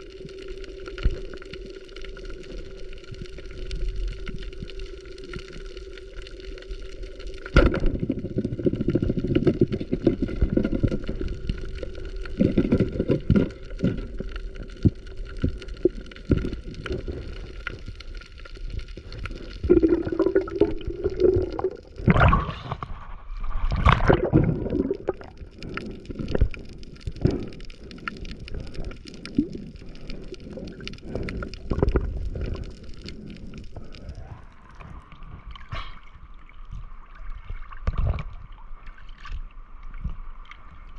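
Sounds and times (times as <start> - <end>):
crackles: 0.0 - 40.9
water gurgling and sloshing: 0.0 - 40.9.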